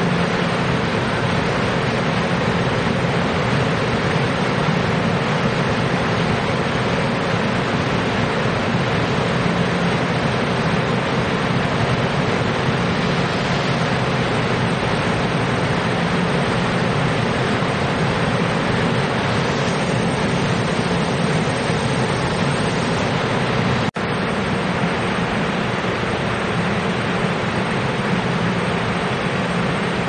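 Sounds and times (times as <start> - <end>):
train rushing noise: 0.0 - 30.0.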